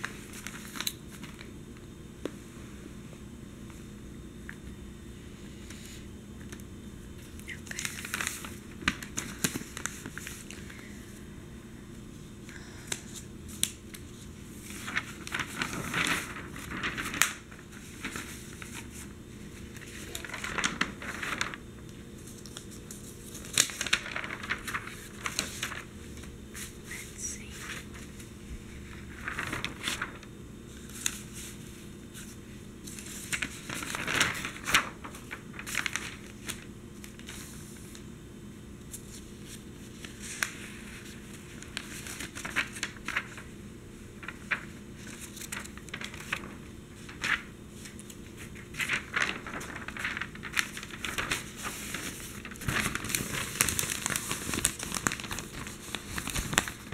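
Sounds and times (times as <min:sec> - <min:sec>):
newspaper pages rustling: 0:00.0 - 0:01.9, 0:07.2 - 0:11.0, 0:12.6 - 0:38.1, 0:38.8 - 0:56.9.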